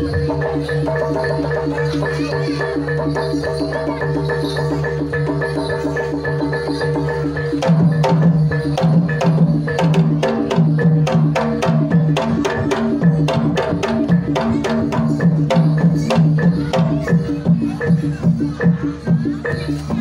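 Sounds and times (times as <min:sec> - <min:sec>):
hand drum fast rhythm: 0:00.0 - 0:20.0
metallophones ringing: 0:00.0 - 0:20.0.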